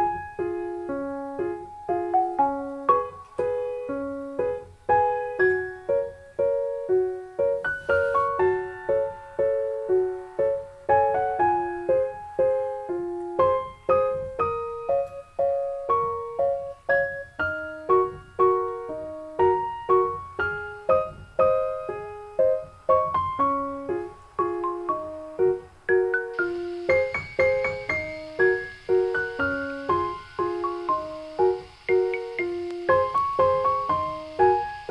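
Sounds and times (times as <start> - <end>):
gentle solo piano: 0.0 - 34.9.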